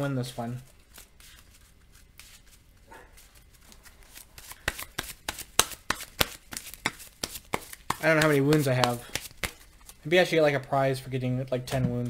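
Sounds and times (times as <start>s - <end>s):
cards being shuffled: 0.3s - 10.1s.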